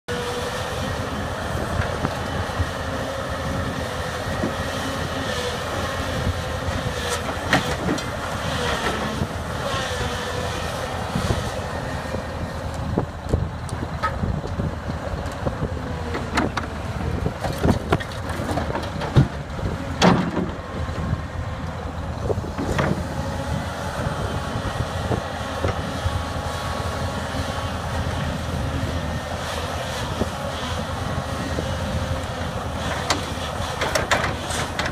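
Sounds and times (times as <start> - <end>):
steady engine whine: 0.0 - 34.9
excavator diesel engine running: 0.1 - 34.9.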